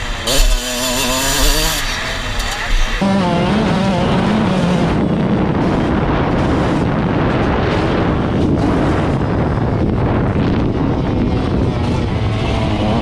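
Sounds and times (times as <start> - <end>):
off-road vehicle engine running: 0.0 - 13.0
wind noise on microphone: 0.0 - 13.0.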